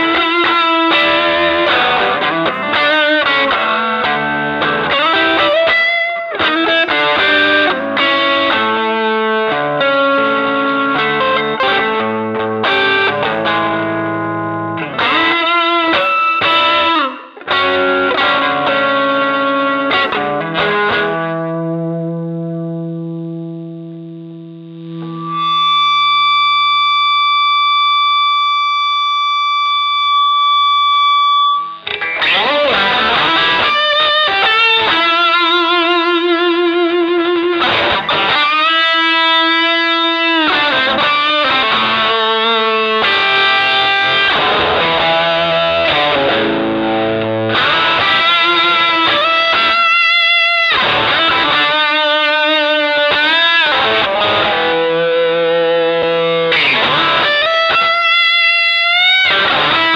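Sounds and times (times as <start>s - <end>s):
electric guitar notes with bends: 0.0s - 59.9s.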